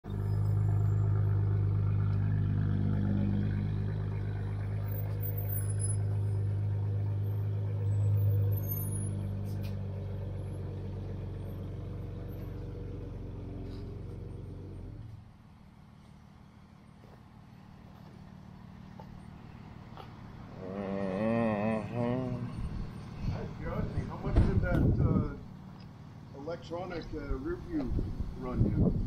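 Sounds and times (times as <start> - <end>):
car exhaust low drone: 0.0 - 29.0.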